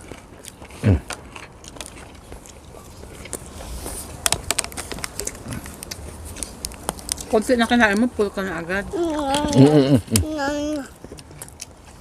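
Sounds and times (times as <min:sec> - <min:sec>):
crunching and chewing: 0:00.0 - 0:08.1, 0:08.9 - 0:12.0.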